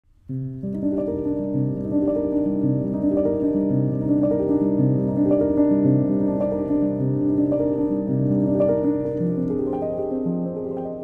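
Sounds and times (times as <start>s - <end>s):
instrumental background music: 0.3s - 11.0s.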